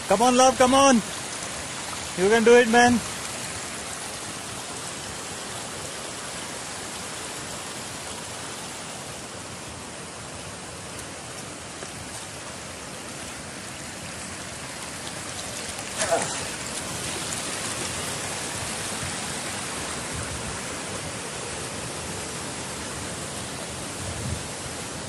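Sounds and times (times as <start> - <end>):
stream running over rocks: 0.0 - 25.0.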